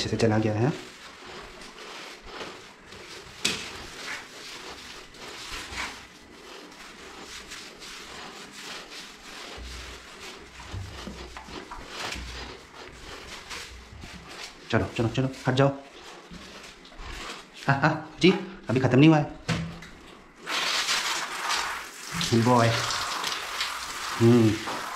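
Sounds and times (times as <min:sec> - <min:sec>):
wet rubbing of dog fur: 0:00.0 - 0:19.0, 0:20.0 - 0:24.9.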